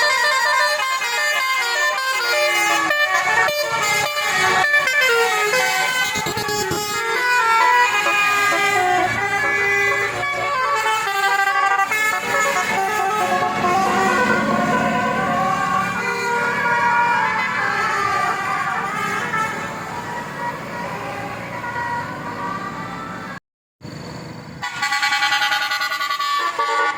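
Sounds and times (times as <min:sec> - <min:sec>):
musical air horn melody: 0:00.0 - 0:19.9, 0:24.6 - 0:26.9.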